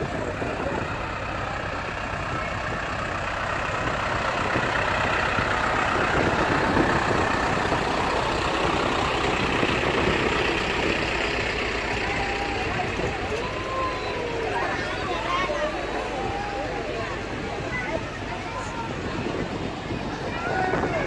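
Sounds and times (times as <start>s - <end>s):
tractor diesel engine: 0.0s - 21.0s.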